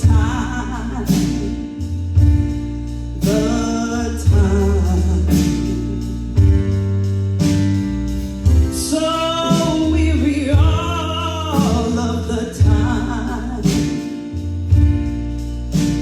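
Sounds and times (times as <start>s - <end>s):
live blues band: 0.0s - 16.0s.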